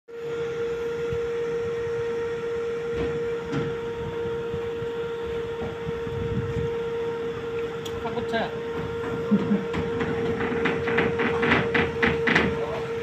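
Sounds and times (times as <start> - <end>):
machinery whining hum: 0.1 - 13.0.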